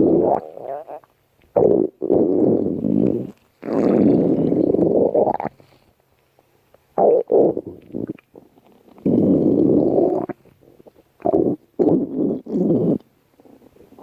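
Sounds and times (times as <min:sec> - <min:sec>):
stomach growling: 0:00.0 - 0:05.7, 0:07.0 - 0:14.0.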